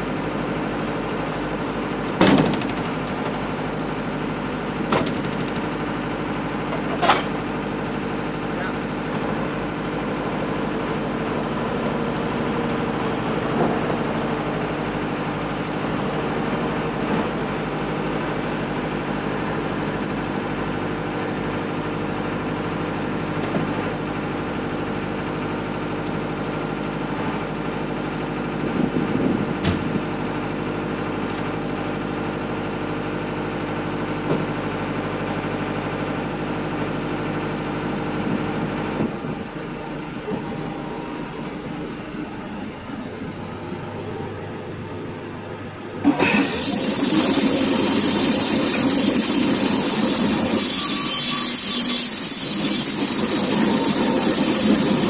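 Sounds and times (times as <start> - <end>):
sawmill and generator humming: 0.0 - 55.0.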